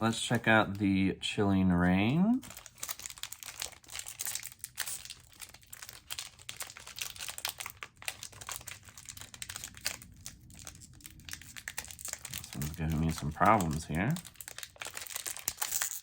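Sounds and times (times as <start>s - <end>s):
foil wrapper crinkling: 1.9s - 16.0s.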